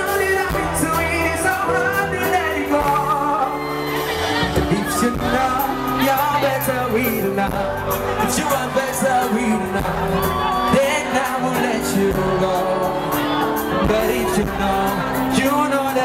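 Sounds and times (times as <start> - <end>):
crowd shouting and whooping: 0.0 - 16.0
live pop music: 0.0 - 16.0
person singing: 0.0 - 16.0.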